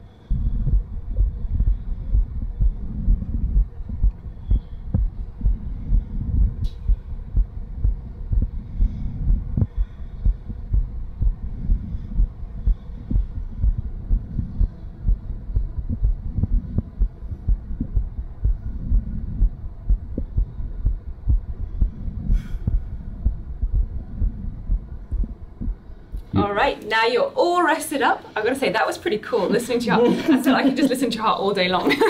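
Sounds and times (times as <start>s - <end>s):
heartbeat through stethoscope: 0.0s - 26.6s
whooshing heart murmur: 0.0s - 26.7s.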